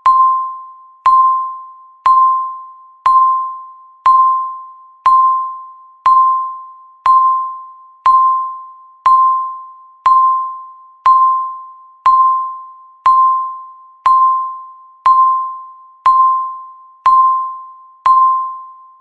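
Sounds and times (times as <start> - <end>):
countdown timer beeps: 0.0 - 19.0.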